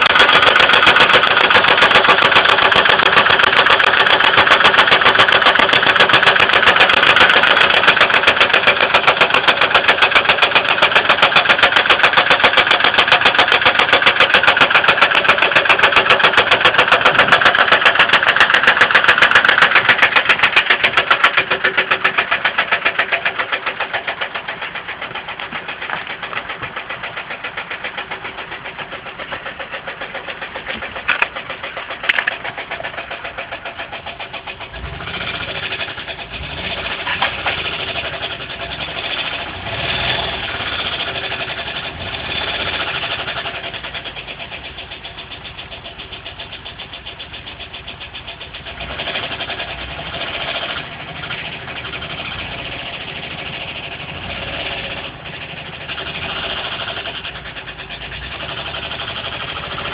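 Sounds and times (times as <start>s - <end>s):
engine idling with rapid knocking: 0.0s - 59.9s.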